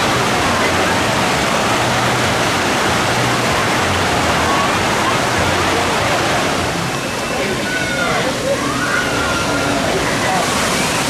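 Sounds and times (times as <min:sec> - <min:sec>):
faint crowd voices: 0:00.0 - 0:11.0
falling splashing water: 0:00.0 - 0:11.0.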